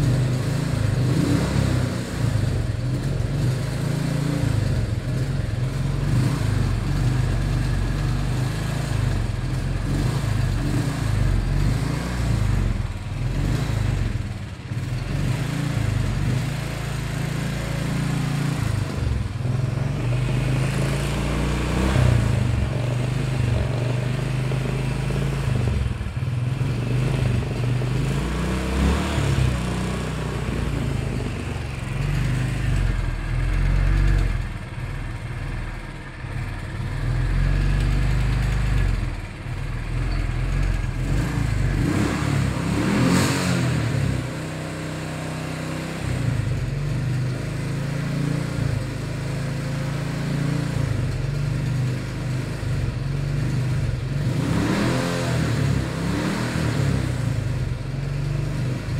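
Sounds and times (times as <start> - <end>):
motorcycle engine idling: 0.0 - 42.8, 43.7 - 54.3, 57.2 - 58.9.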